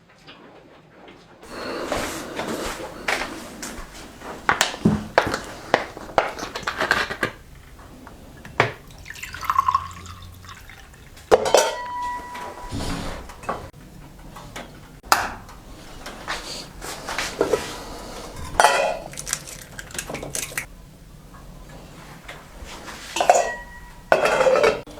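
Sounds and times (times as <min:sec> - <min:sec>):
dishes and cutlery clinking: 0:01.4 - 0:13.7, 0:14.4 - 0:20.7, 0:22.9 - 0:24.9.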